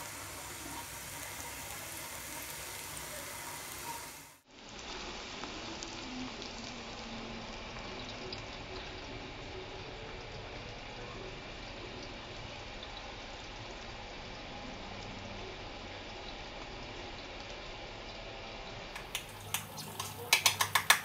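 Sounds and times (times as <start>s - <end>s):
butter sizzling in a pan: 0.0s - 21.0s.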